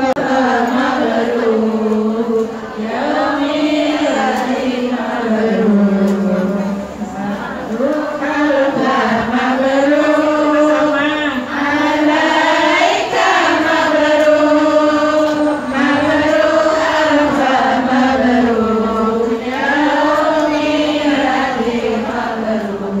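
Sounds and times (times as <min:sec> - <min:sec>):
women chanting in unison: 0:00.0 - 0:23.0.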